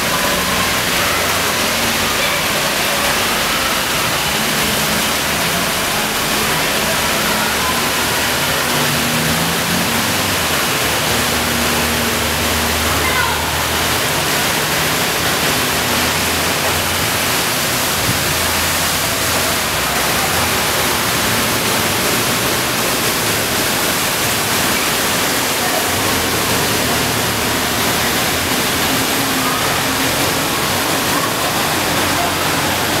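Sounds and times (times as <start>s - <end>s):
floodwater rushing: 0.0s - 33.0s
heavy rain pouring: 0.0s - 33.0s.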